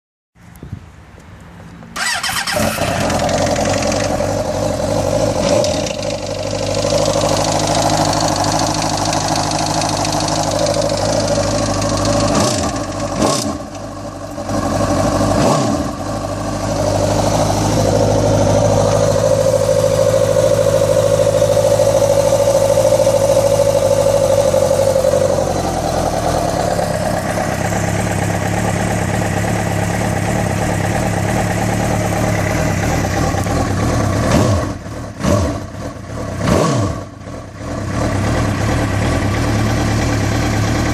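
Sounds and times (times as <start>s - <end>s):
motorcycle engine idling: 2.0s - 36.4s, 37.0s - 40.9s.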